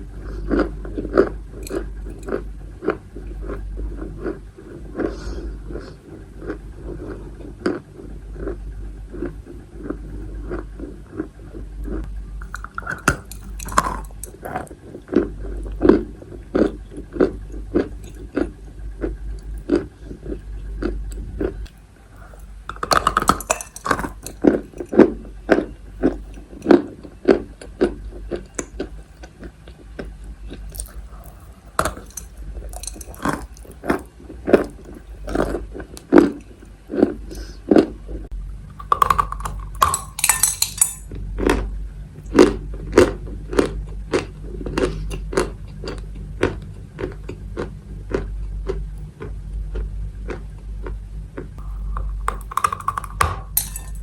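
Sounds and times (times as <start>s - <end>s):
chalk crunching being chewed: 0.2s - 38.0s, 42.3s - 53.2s.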